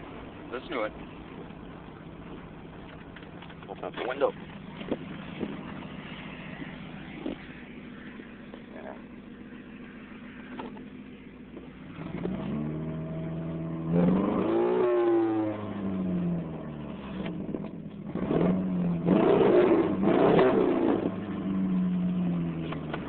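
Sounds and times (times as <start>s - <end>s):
misfiring car engine revving: 0.0s - 23.0s.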